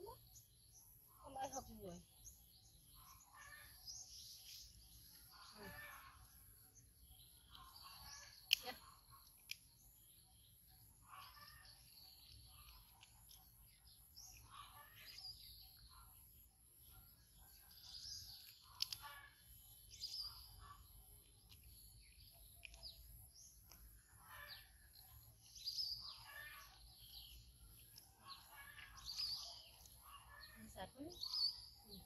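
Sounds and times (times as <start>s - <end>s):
faint high chirping calls: 0.0s - 32.0s.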